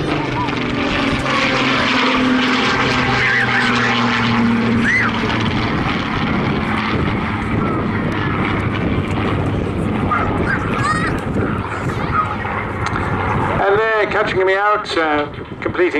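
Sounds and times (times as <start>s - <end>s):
propeller plane engine drone: 0.0s - 15.9s.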